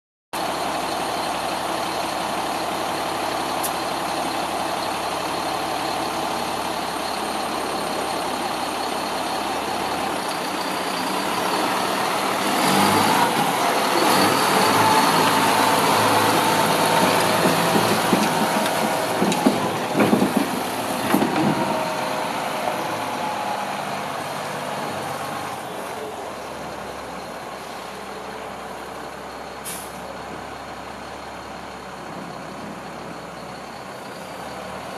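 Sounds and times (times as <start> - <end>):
diesel truck engine running: 0.4 - 34.9.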